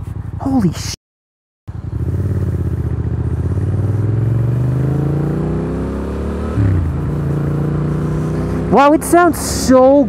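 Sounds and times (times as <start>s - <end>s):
motorcycle engine accelerating: 1.7s - 10.0s.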